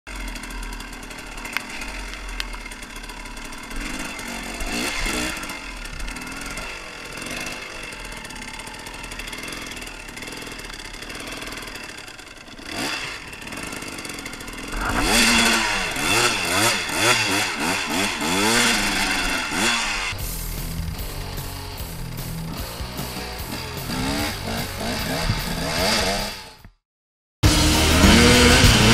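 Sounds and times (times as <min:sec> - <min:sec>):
dirt bike engine revving: 0:00.1 - 0:26.6, 0:27.4 - 0:28.9.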